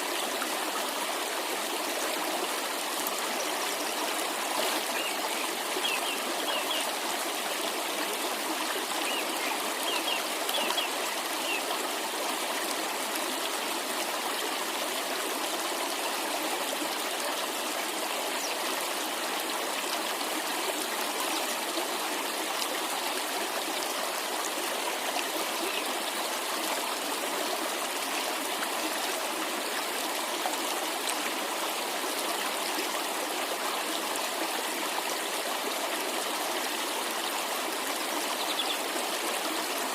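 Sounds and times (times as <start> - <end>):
mountain stream running: 0.0 - 39.9.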